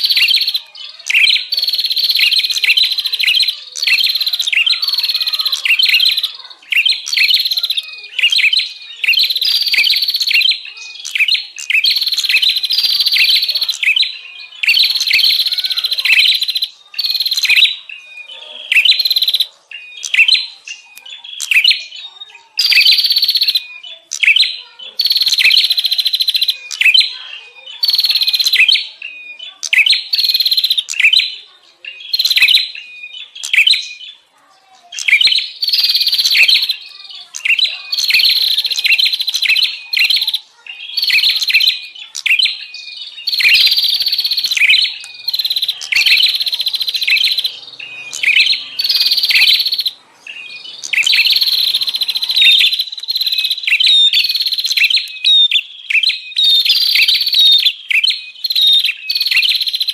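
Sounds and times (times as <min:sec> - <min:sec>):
warblers chattering: 0:00.0 - 0:59.9.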